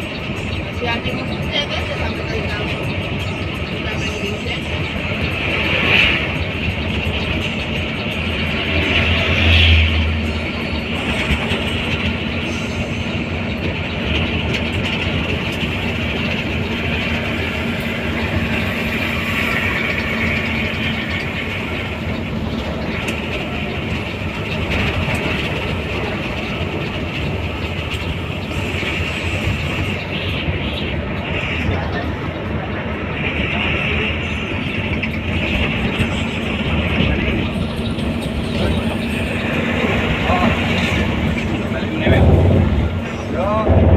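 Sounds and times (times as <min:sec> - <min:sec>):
bus running noise: 0:00.0 - 0:43.9.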